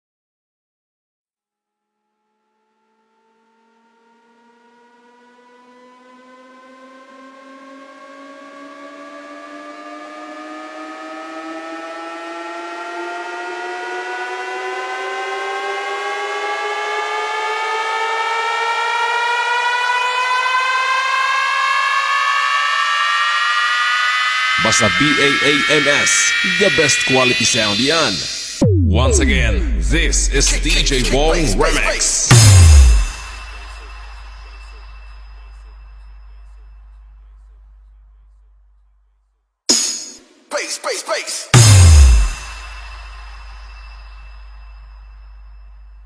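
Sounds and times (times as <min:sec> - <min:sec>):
electronic riser sweep: 0:03.2 - 0:37.4, 0:39.8 - 0:44.8.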